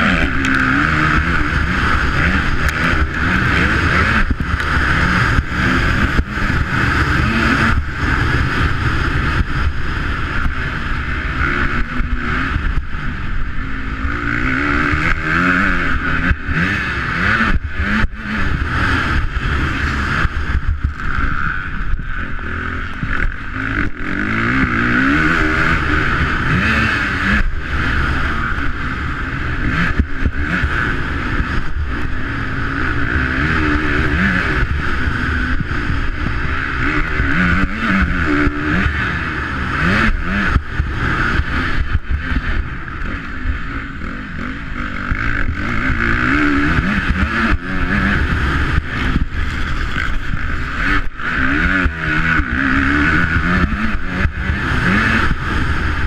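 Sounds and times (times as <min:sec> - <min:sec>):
constant rushing noise: 0:00.0 - 0:56.0
motocross bike engine revving: 0:00.0 - 0:56.0.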